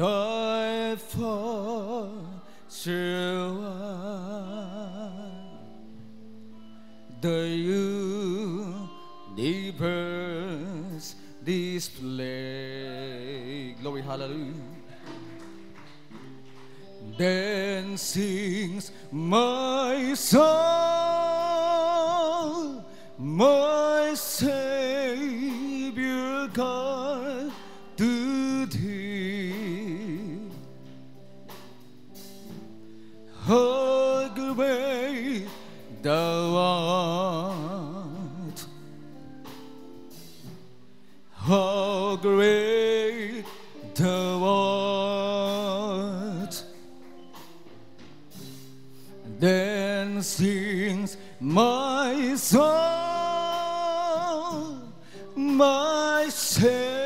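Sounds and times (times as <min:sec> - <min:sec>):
person singing with vibrato: 0:00.0 - 0:15.2, 0:17.0 - 0:30.8, 0:33.3 - 0:39.4, 0:41.3 - 0:47.0, 0:49.2 - 0:57.0.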